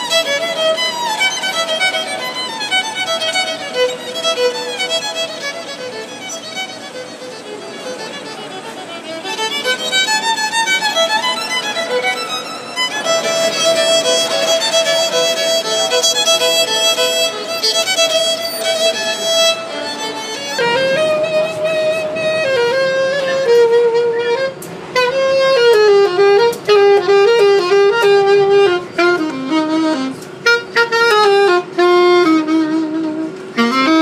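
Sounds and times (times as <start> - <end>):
saxophone melody: 0.0 - 34.0
solo violin melody: 0.0 - 34.0
subway car rumble: 0.0 - 34.0.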